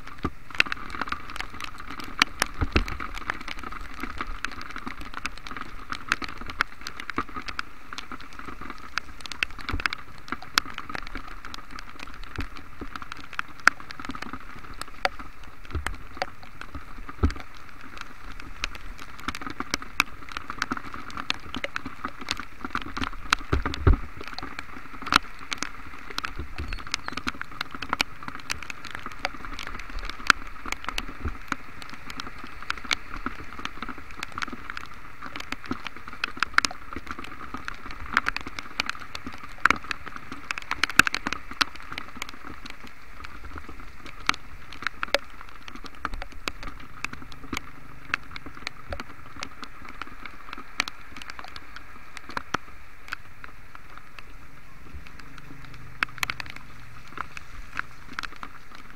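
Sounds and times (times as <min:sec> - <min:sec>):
rain hissing on wet street: 0:00.0 - 0:58.9
raindrops tapping close: 0:00.0 - 0:58.9.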